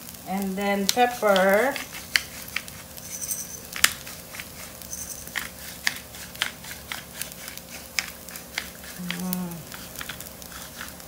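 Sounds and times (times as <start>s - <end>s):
faint frying sizzle: 0.0s - 11.0s
rice crackling and popping: 0.0s - 11.0s.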